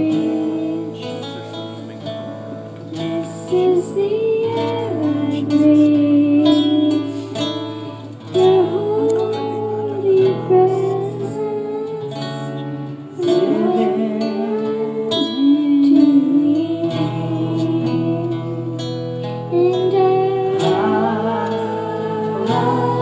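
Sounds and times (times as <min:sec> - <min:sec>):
acoustic guitar: 0:00.0 - 0:23.0
person singing slow song: 0:00.0 - 0:23.0.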